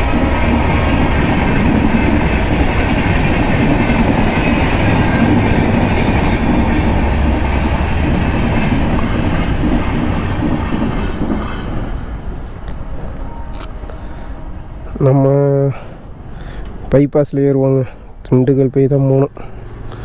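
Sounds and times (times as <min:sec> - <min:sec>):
train wheels rumbling on rails: 0:00.0 - 0:16.9.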